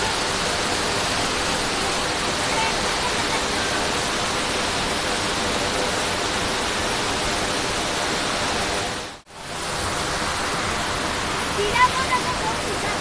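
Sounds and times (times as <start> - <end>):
water rushing down spillway: 0.0 - 13.0.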